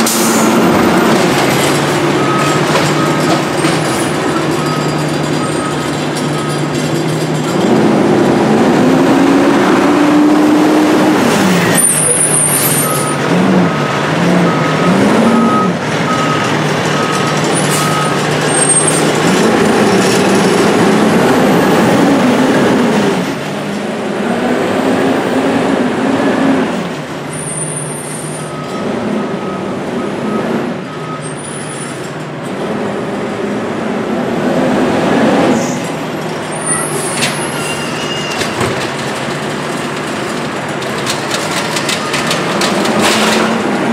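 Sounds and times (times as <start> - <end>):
garbage truck diesel engine revving: 0.0 - 27.3, 32.5 - 43.9.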